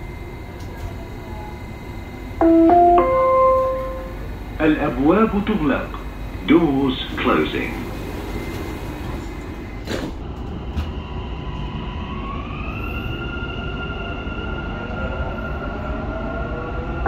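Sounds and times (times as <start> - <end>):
train running with rumble and hiss: 0.0 - 17.0.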